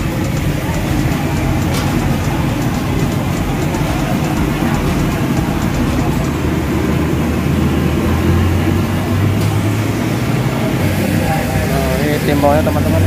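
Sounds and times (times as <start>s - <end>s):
engine and traffic rumble: 0.0s - 13.0s
faint background voices: 0.0s - 13.0s
hum: 0.0s - 13.0s.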